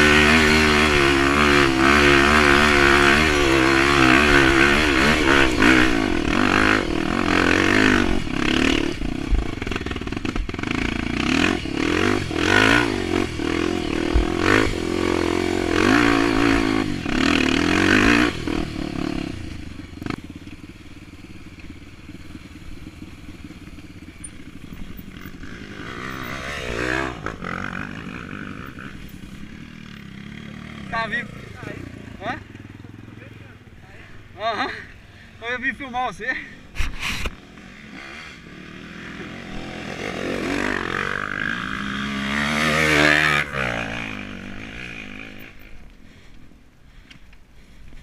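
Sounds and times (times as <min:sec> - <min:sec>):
motorcycle engine revving: 0:00.0 - 0:46.3.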